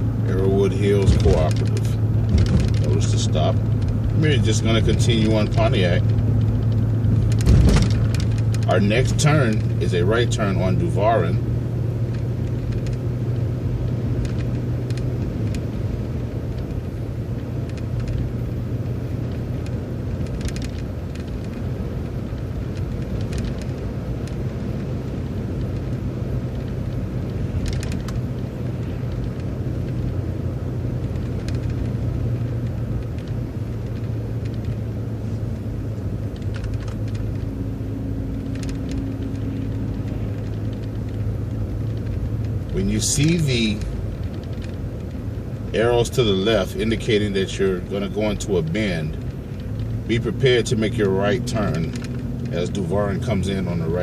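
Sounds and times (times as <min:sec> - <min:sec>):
bus engine drone and road rumble: 0:00.0 - 0:54.0.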